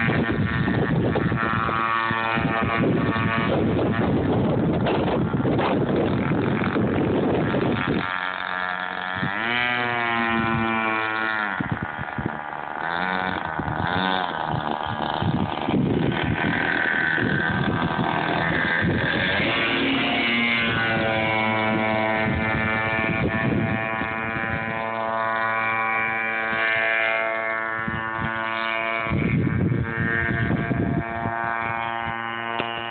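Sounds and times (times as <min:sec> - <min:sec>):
model boat motor whining: 0:00.0 - 0:32.9.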